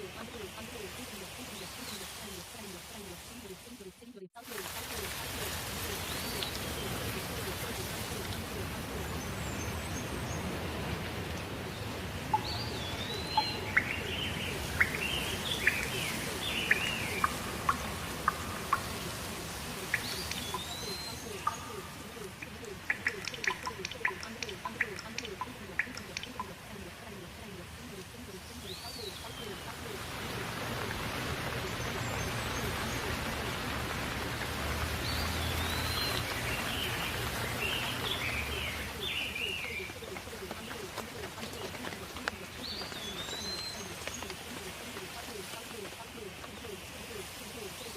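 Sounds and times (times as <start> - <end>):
steady rain: 0.0 - 3.7, 4.4 - 47.9
warbling bird calls: 0.0 - 47.9.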